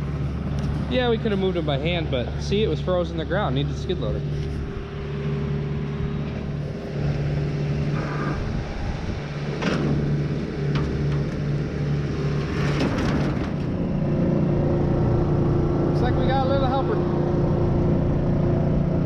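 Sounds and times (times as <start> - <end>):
skid loader engine running: 0.0 - 19.0.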